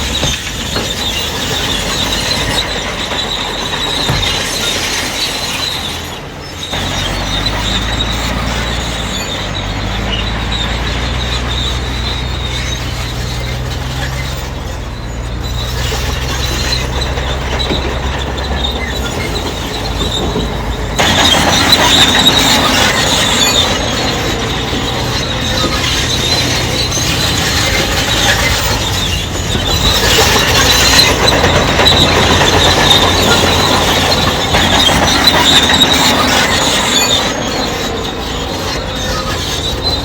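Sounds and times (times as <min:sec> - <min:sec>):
bulldozer diesel engine running: 0:00.0 - 0:40.0
steel tracks squealing: 0:00.0 - 0:40.0.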